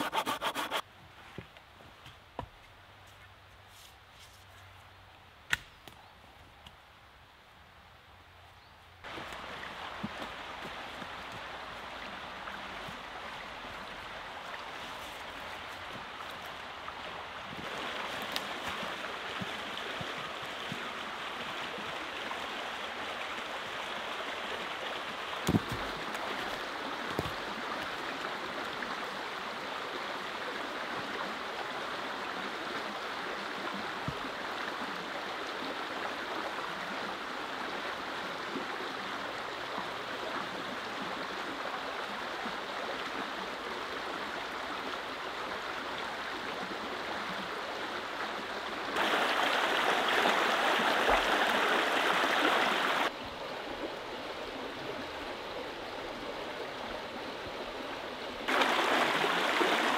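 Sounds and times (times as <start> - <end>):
stream flowing: 0.0 - 0.8, 9.0 - 59.9.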